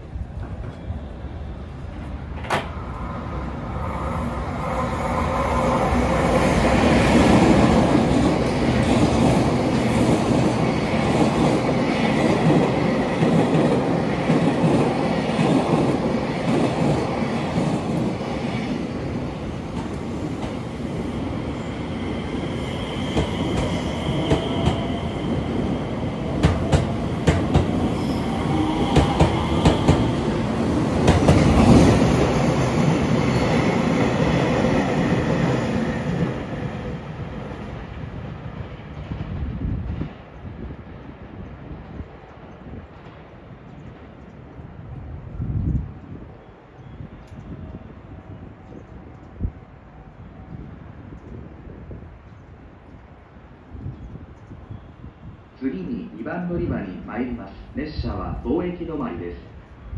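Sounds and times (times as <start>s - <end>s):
freight train wheels rumbling: 0.0s - 55.5s.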